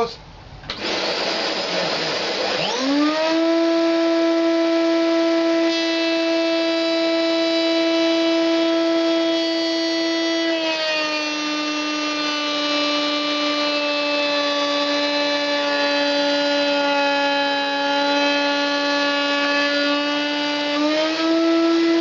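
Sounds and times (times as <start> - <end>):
vacuum cleaner running: 0.7 - 22.0
wood router motor whine: 0.7 - 22.0.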